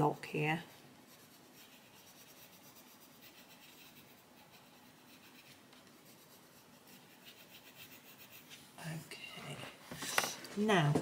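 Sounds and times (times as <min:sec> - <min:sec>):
pencil scratching on paper: 0:00.0 - 0:09.0.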